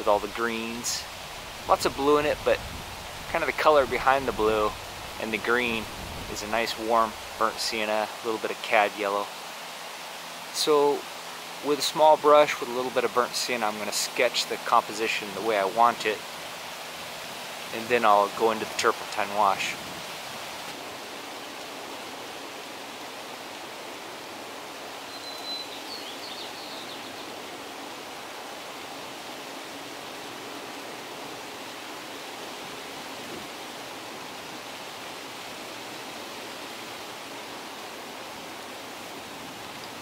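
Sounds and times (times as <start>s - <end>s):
outdoor background hiss: 0.0s - 40.0s.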